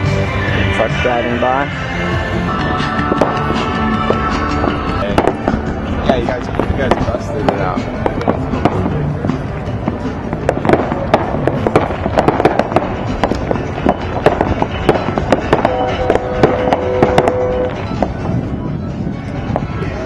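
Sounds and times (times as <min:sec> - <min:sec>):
fireworks popping and crackling: 0:02.8 - 0:20.0.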